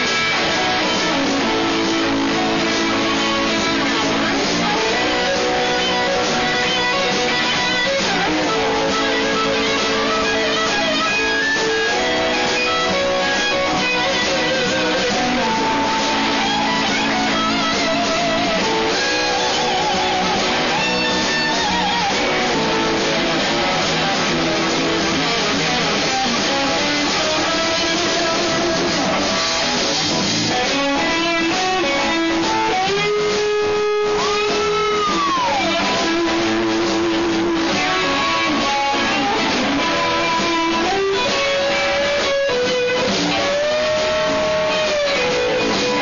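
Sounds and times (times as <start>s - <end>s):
lead electric guitar with vibrato: 0.0s - 46.0s
live blues band: 0.0s - 46.0s.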